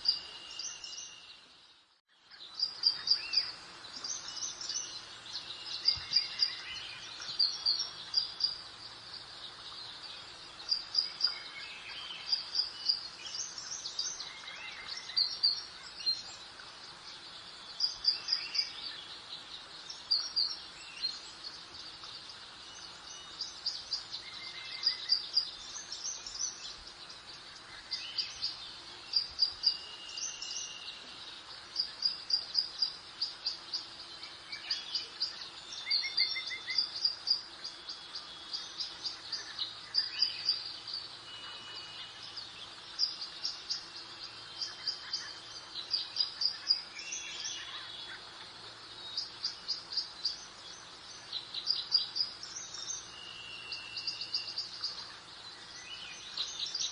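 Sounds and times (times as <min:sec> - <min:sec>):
soft breeze: 0:00.0 - 0:56.9
songbirds chirping and trilling: 0:00.0 - 0:56.9.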